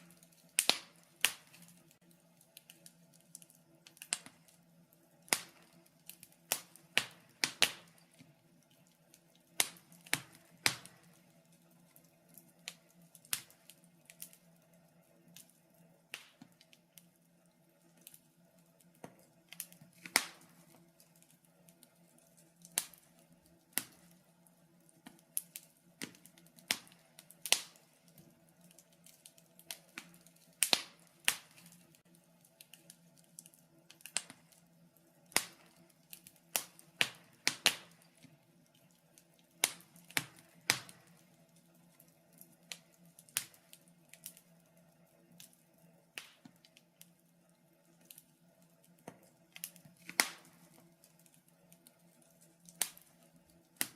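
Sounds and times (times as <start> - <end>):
fireplace fire crackling: 0.0 - 53.9.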